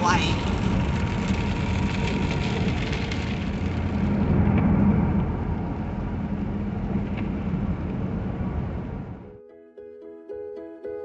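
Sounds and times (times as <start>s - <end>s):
tyres on a wet road: 0.0s - 9.2s
car engine: 0.0s - 9.3s.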